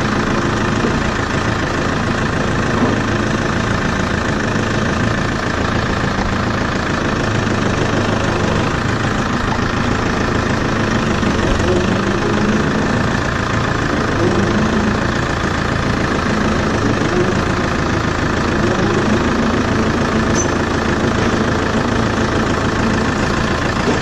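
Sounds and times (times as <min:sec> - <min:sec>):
tractor engine running steadily: 0:00.0 - 0:24.0.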